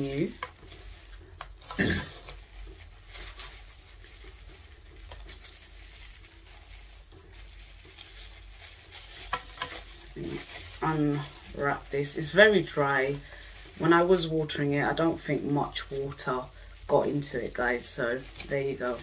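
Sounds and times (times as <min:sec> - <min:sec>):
plastic wrap and moss rustling: 0:00.0 - 0:19.0.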